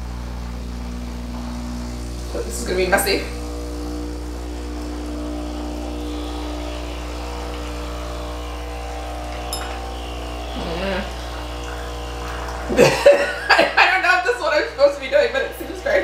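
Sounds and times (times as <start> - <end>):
espresso machine pump buzzing: 0.0 - 16.0.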